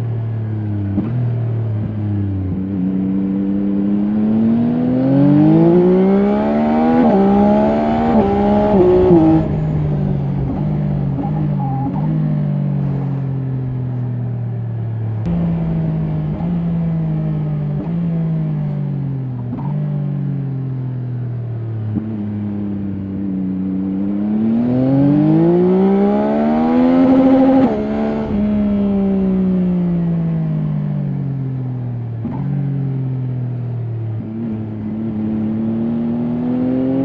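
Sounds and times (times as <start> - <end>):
motorcycle engine revving: 0.0 - 14.0, 14.8 - 37.0.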